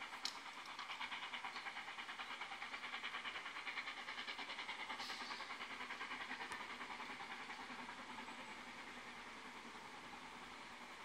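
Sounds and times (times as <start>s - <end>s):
steam locomotive exhaust beats: 0.0s - 11.0s.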